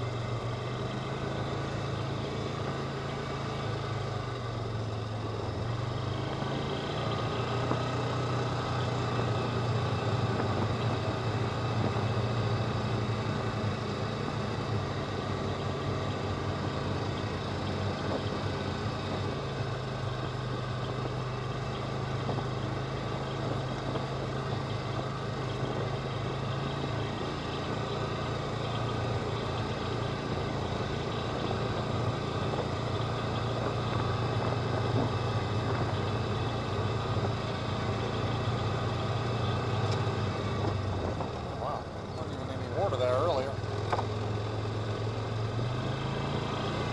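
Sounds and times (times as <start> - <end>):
utility vehicle engine droning: 0.0 - 46.9.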